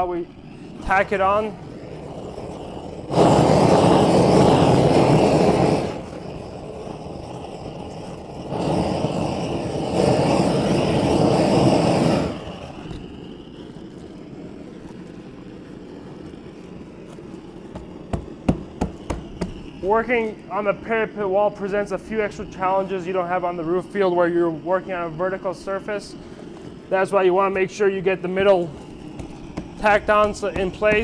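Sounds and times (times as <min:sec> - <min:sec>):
flame hissing: 0:00.0 - 0:31.0
torch flame roaring: 0:00.0 - 0:31.0.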